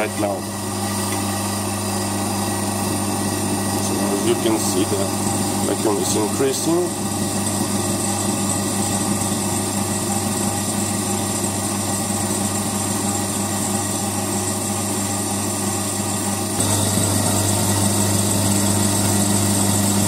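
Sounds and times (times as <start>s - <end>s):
vacuum pump humming: 0.0s - 20.0s.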